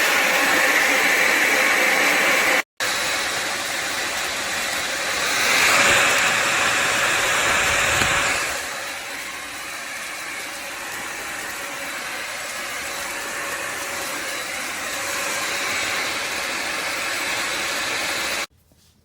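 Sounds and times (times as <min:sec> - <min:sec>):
vacuum motor whirring with hiss: 0:00.0 - 0:18.5.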